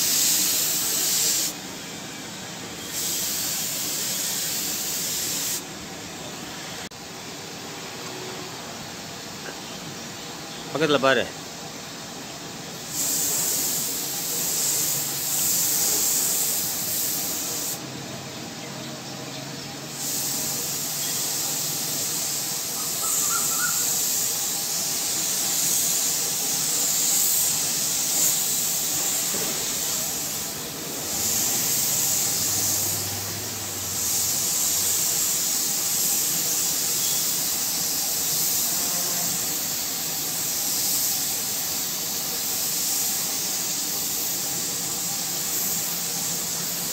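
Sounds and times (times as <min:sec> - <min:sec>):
spray gun hissing: 0:00.0 - 0:06.0, 0:10.8 - 0:17.9, 0:19.8 - 0:46.9.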